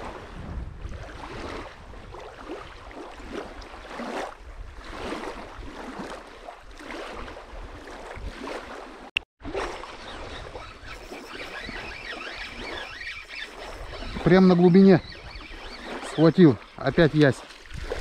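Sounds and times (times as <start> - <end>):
wind on microphone: 0.0 - 8.7, 9.6 - 18.0
waves lapping on sandy shore: 0.0 - 18.0.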